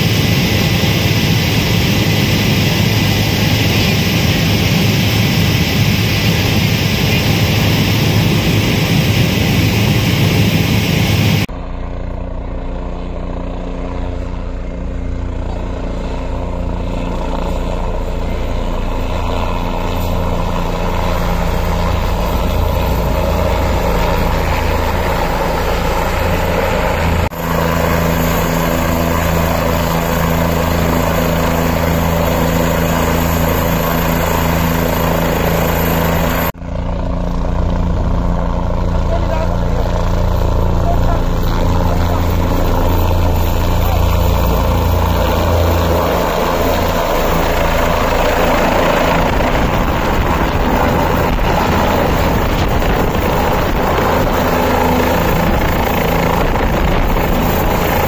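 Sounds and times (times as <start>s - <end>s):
helicopter cabin drone: 0.0s - 58.0s
helicopter drone with high whine: 0.0s - 58.0s
helicopter low hum from ground: 0.0s - 58.0s.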